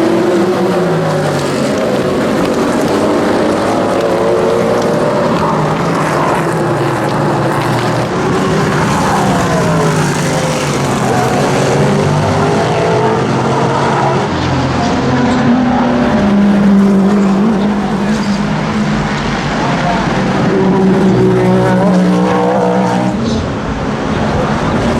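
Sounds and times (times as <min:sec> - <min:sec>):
race car engines passing: 0:00.0 - 0:24.9.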